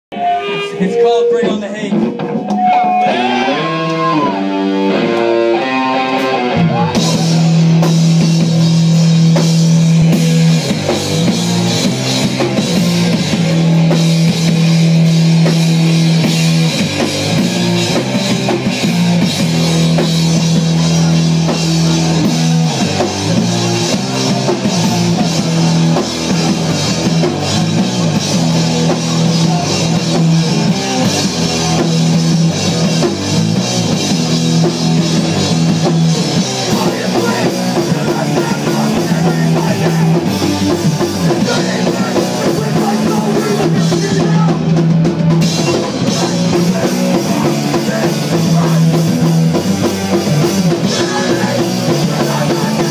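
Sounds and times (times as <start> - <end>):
rock band playing live: 0.1 - 52.9.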